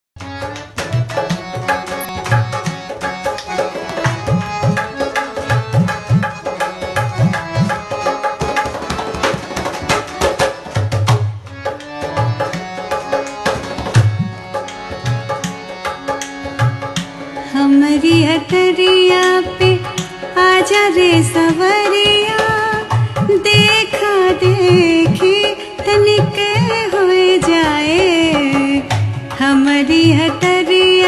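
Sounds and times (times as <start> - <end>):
tabla playing a rhythm: 0.2 - 31.0.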